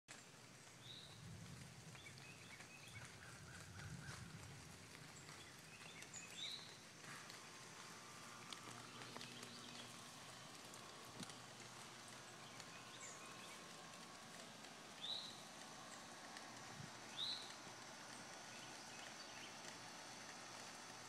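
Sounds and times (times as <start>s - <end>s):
faint low rumble: 0.1s - 21.0s.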